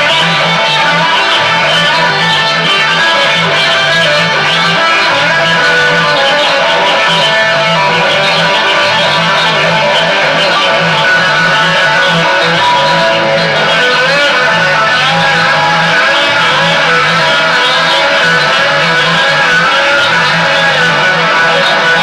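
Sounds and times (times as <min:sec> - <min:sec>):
electric guitar: 0:00.0 - 0:22.0
live band music: 0:00.0 - 0:22.0.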